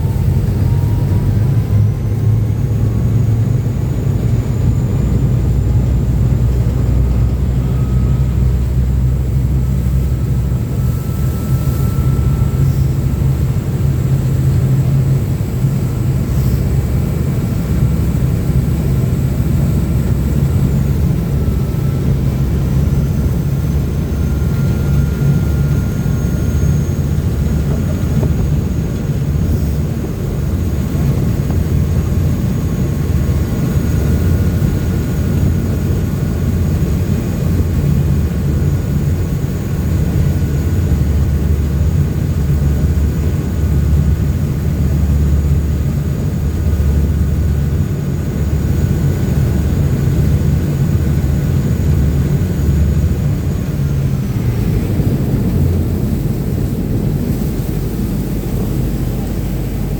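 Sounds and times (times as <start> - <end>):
boat engines droning: 0.0 - 59.9.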